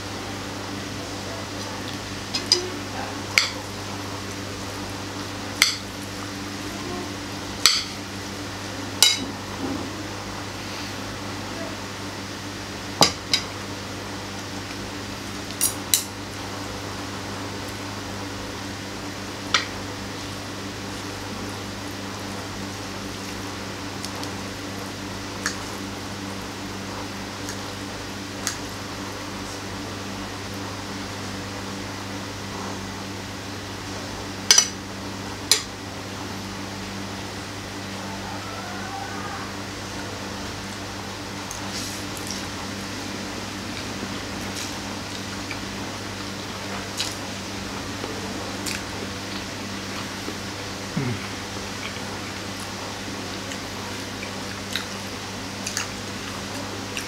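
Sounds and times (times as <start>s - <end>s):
low background hum: 0.0s - 57.0s.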